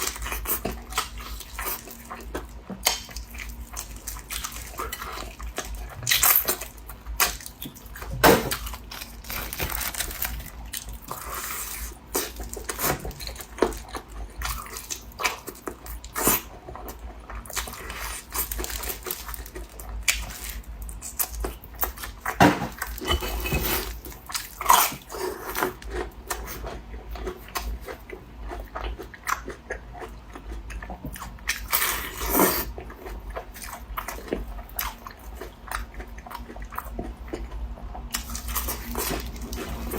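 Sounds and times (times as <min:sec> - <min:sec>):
biting and chewing: 0:00.0 - 0:39.9.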